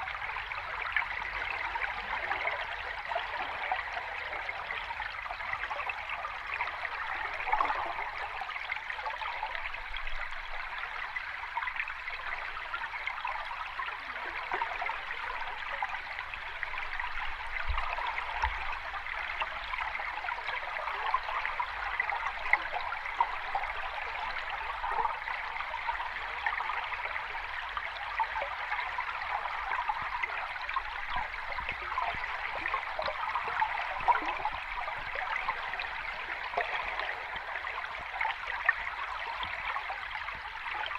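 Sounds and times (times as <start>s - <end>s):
water rushing and gurgling: 0.0s - 40.9s.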